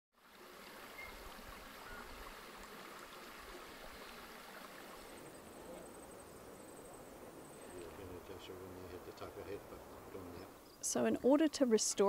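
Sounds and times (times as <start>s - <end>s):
even hiss: 0.4s - 11.0s.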